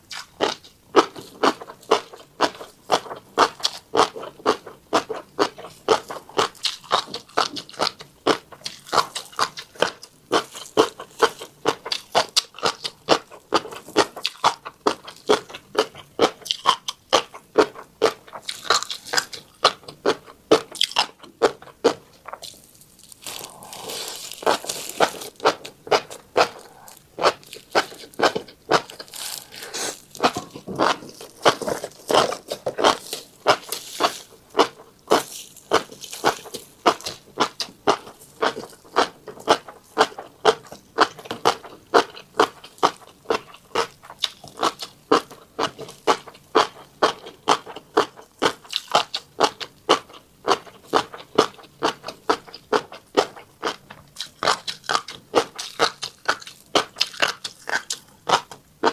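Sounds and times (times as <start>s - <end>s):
crisp chewing crunches: 0.0s - 58.9s.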